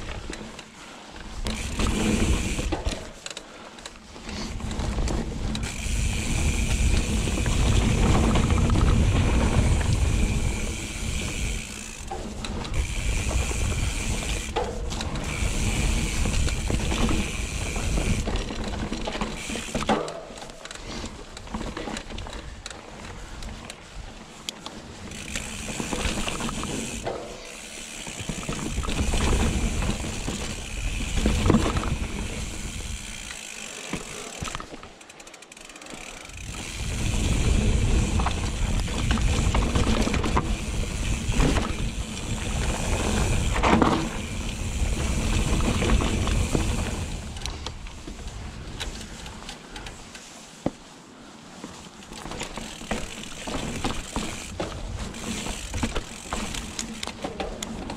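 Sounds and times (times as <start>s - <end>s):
bike tyres rumbling on dirt: 0.0s - 49.5s, 51.5s - 57.9s.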